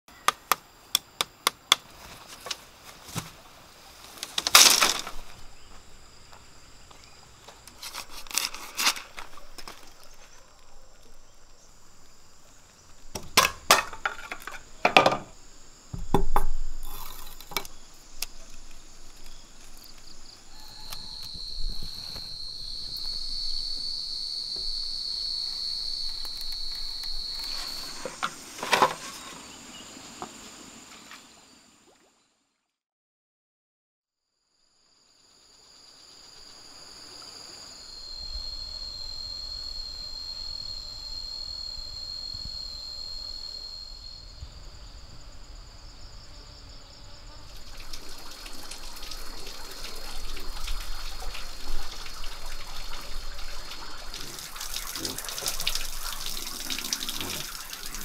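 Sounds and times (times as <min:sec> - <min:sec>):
insects high tone: 0:00.1 - 0:31.8, 0:34.3 - 0:58.0
loud insect drone: 0:04.3 - 0:31.8, 0:34.3 - 0:58.0.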